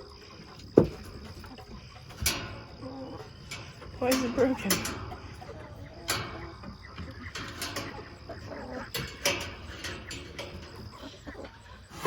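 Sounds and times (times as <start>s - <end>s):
chickens clucking: 0.0s - 12.0s
insect trill: 0.0s - 12.0s.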